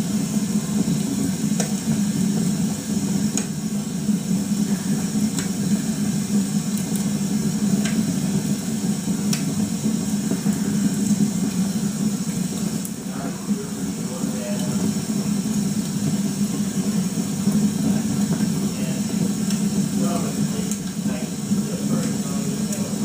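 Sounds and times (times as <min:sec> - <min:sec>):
wood fire crackling: 0:00.0 - 0:23.0
faint fire pops: 0:00.6 - 0:23.0.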